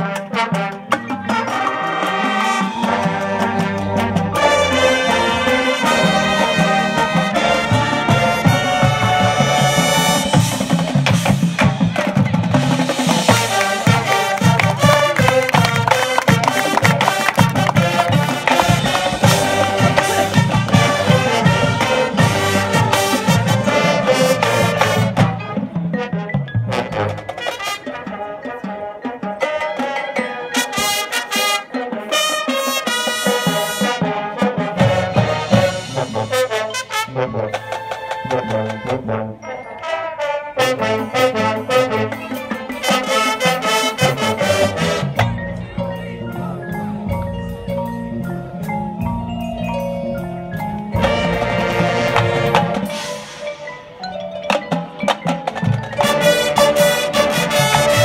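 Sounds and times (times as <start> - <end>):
drums: 0.0 - 58.0
front-ensemble percussion: 0.0 - 58.0
marching band brass: 0.0 - 58.0.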